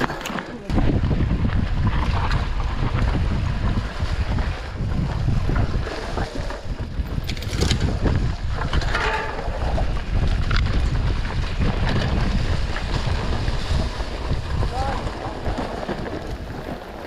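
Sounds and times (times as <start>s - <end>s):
bike clicking and rattling: 0.0s - 17.0s
bike tyres on dirt trail: 0.0s - 17.0s
wind buffeting microphone: 0.0s - 17.0s.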